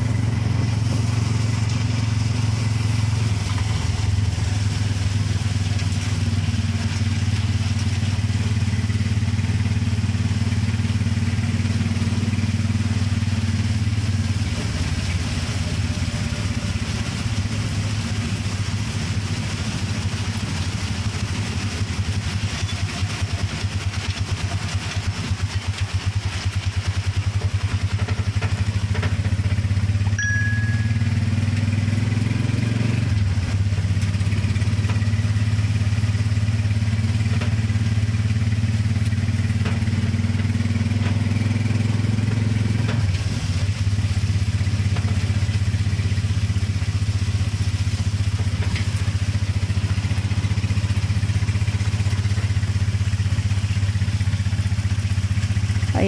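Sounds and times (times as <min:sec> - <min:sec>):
rain hiss: 0:00.0 - 0:56.0
small motorcycle engine running: 0:00.0 - 0:56.0
wet road noise: 0:00.0 - 0:56.0.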